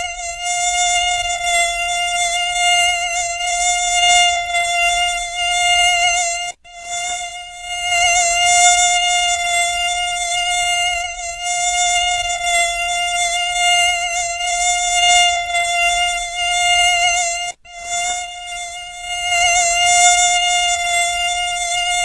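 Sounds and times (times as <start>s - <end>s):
mosquito whine: 0.0s - 22.0s.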